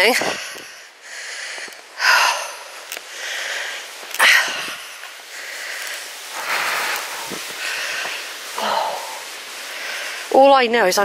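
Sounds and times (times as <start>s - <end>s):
person breathing hard: 0.2s - 10.3s.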